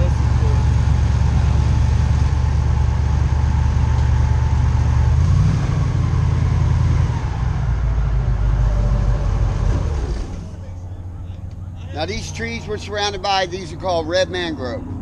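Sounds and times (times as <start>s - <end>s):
airboat engine and propeller: 0.0s - 15.0s.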